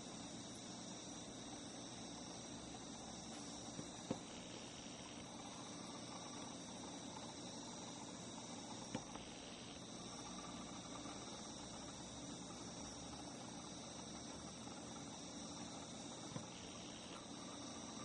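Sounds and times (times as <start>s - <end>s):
insects singing: 0.0s - 18.0s.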